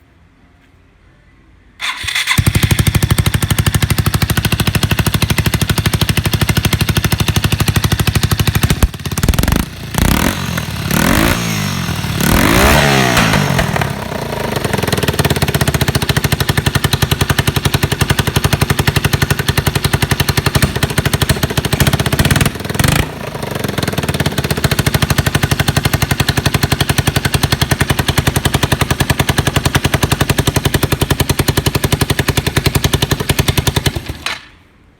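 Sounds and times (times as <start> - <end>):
motorcycle engine idling: 1.8 - 34.2.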